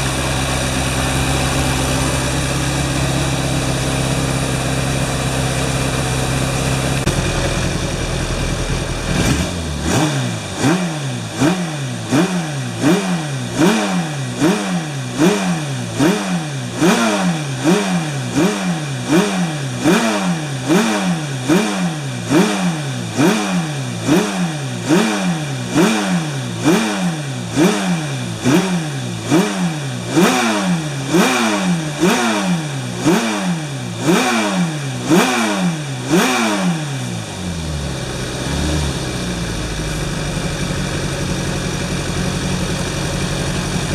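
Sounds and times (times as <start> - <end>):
motorcycle engine idling: 0.0 - 43.9
motorcycle engine revving: 0.0 - 43.9.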